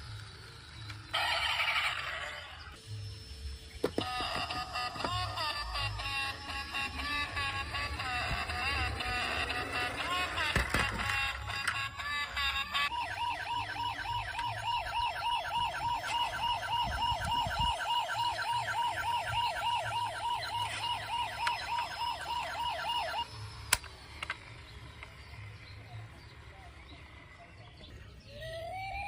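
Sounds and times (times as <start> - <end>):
toy siren warbling: 0.2 - 2.8, 3.9 - 25.9, 28.2 - 29.0.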